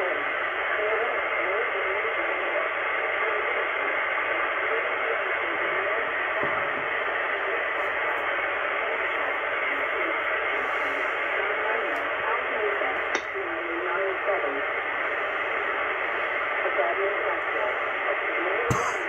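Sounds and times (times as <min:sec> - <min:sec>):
faint voice over radio: 0:00.0 - 0:19.0
radio static hiss: 0:00.0 - 0:19.0.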